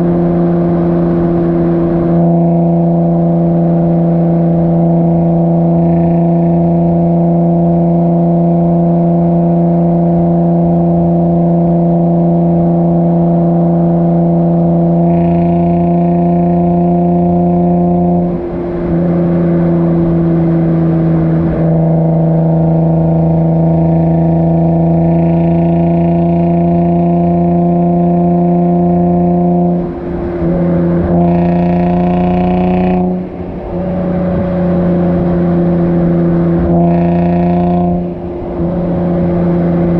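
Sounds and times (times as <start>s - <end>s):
car engine droning through exhaust: 0.0s - 39.9s.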